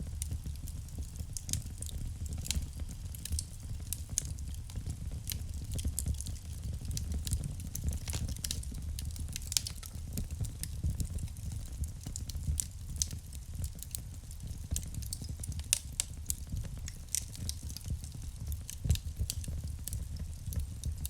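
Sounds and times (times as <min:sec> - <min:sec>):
fire rumbling: 0:00.0 - 0:21.0
logs crackling and popping: 0:00.1 - 0:21.0.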